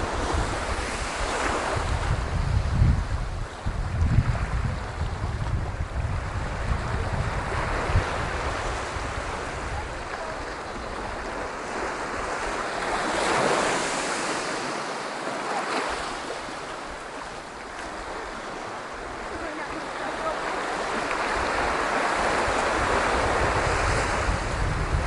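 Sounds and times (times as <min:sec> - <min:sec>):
wind buffeting microphone: 0:00.0 - 0:14.8, 0:15.8 - 0:25.0
sea waves washing onto beach: 0:00.0 - 0:25.0.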